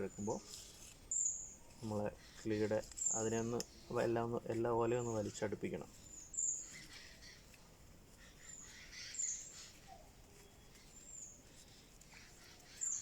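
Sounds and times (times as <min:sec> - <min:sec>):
faint background hiss: 0:00.0 - 0:13.0
small birds chirping: 0:00.0 - 0:13.0.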